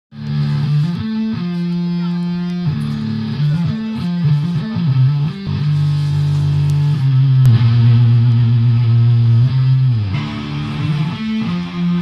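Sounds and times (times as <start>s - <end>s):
electric guitar rock riff: 0.1s - 12.0s.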